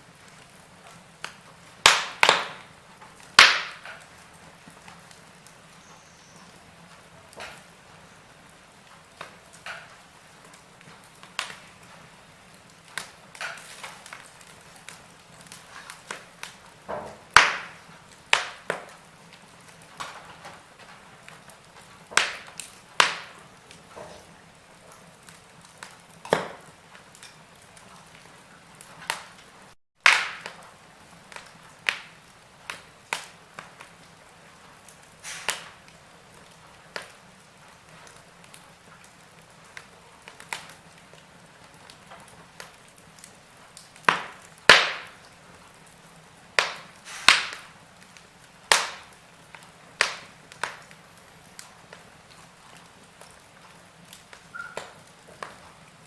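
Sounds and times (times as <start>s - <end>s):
faint steady hiss: 0.0s - 56.0s
wood fire crackling: 0.0s - 56.0s.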